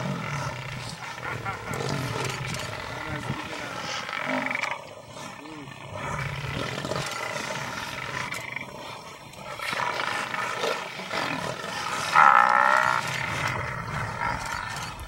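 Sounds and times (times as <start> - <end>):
lions growling: 0.0 - 15.0
loud drawn-out animal call: 0.0 - 15.0.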